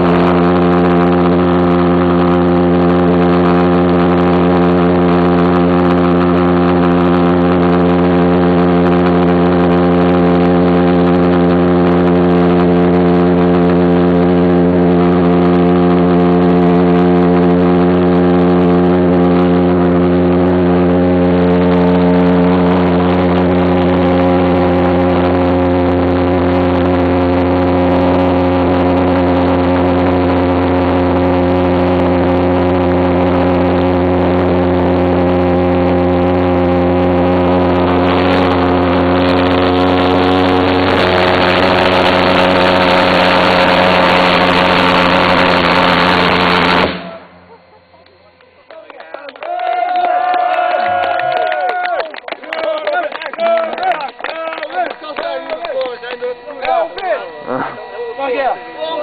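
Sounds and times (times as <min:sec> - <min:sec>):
small jet engine droning: 0:00.0 - 0:59.0.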